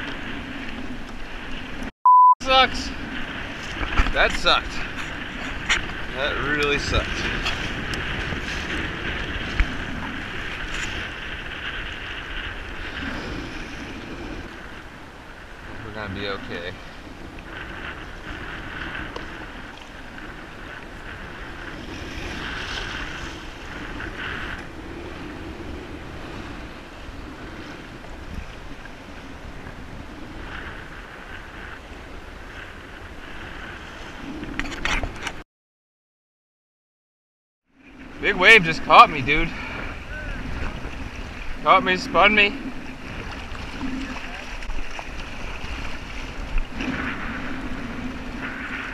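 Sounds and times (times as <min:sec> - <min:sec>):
waves surging: 0:00.0 - 0:34.6, 0:37.8 - 0:48.9
wind buffeting microphone: 0:02.7 - 0:35.4, 0:37.8 - 0:48.9
water splashing against kayak hull: 0:02.9 - 0:35.4, 0:37.8 - 0:48.9.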